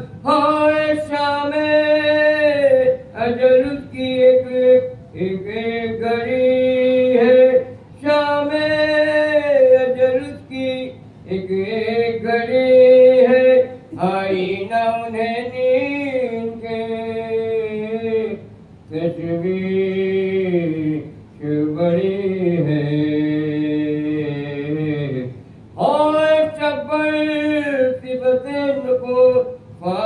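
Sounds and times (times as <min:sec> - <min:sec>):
man chanting solo: 0:00.0 - 0:30.0.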